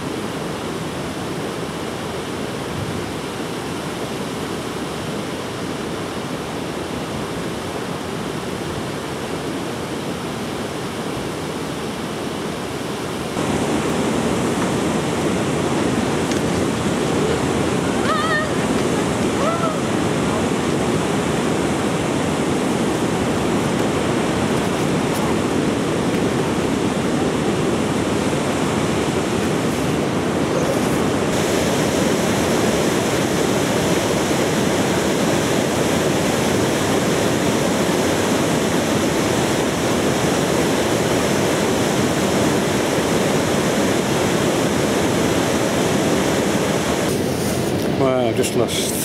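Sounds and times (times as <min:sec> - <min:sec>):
water rushing over a weir: 0:00.0 - 0:49.0.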